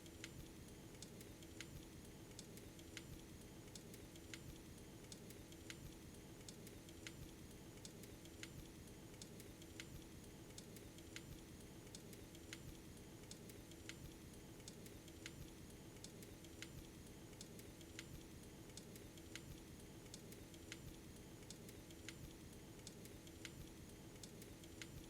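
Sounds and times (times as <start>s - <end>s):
faint regular clicking: 0.0s - 25.0s.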